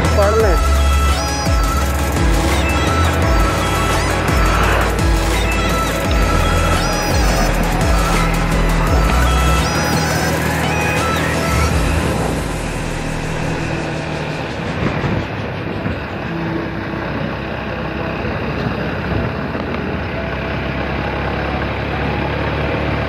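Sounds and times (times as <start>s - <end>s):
motorcycle engine humming: 0.0s - 23.0s
wind and road noise: 0.0s - 23.0s.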